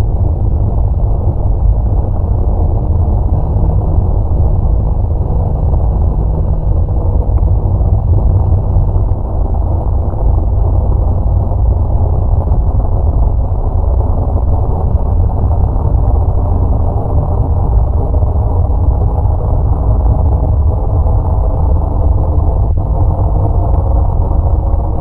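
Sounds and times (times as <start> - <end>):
deep rumble: 0.0 - 25.0.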